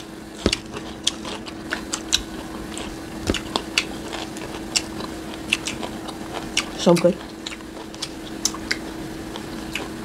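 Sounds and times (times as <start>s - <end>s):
faint steady hum: 0.0s - 10.0s
wet chewing and lip smacks: 0.4s - 10.0s.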